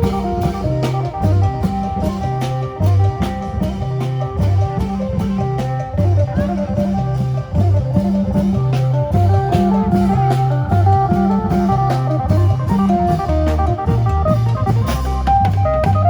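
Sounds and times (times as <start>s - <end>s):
plucked lute melody: 0.0s - 15.8s
bass line: 0.0s - 16.0s
steady drum beat: 0.0s - 16.0s.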